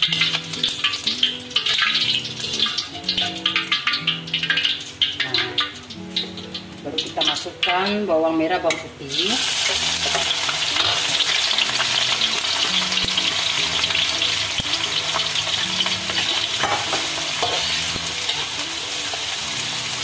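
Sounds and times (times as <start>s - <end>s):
shallots sizzling in hot oil: 0.0s - 20.0s.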